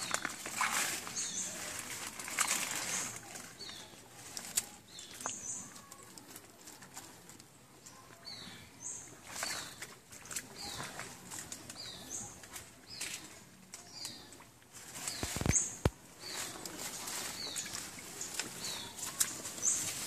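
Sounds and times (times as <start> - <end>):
wet scraping in stream bed: 0.0 - 7.6, 8.3 - 20.0
leaves rustling: 0.0 - 20.0.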